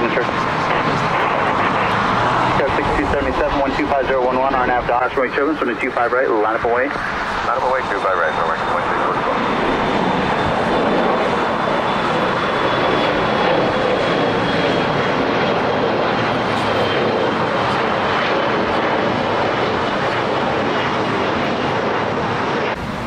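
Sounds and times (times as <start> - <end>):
high engine whine: 0.0 - 23.0
jet engines rushing: 0.0 - 23.0.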